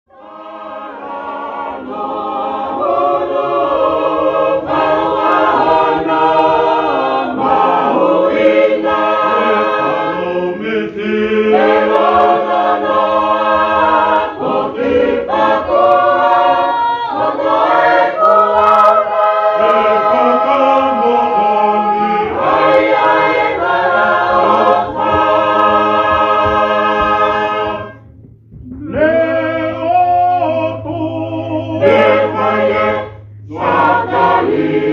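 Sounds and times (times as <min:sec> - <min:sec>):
choir singing a hymn: 0:00.1 - 0:34.9.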